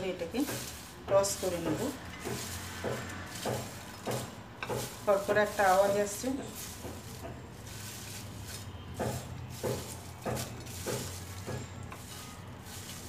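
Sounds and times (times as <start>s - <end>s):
fried okra crackling in glass bowl: 0.0s - 13.0s.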